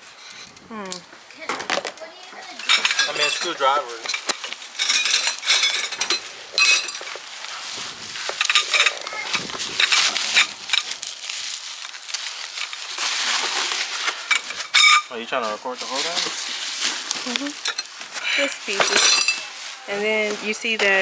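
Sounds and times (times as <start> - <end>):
hard objects clinking: 0.0 - 21.0.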